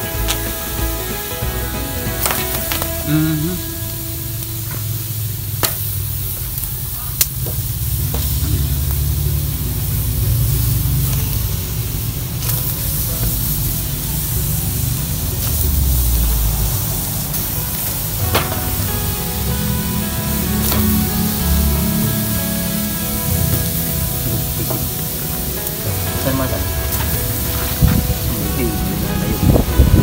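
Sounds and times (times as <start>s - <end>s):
fish sizzling on hot metal: 0.0s - 30.0s.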